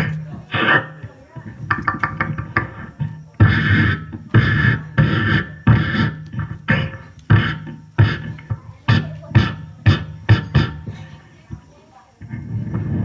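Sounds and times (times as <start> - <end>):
beatboxed hissing snare: 0.0 - 13.0
beatboxing bass kicks: 0.0 - 13.0.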